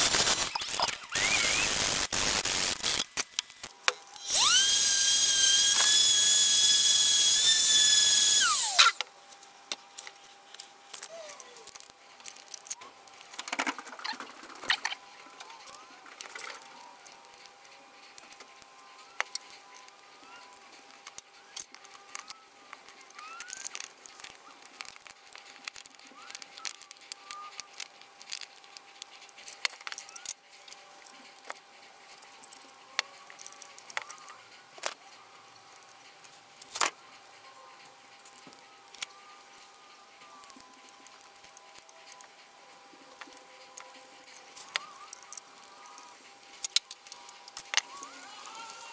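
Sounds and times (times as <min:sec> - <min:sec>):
clicks and clinks of small parts: 0:02.8 - 0:48.9.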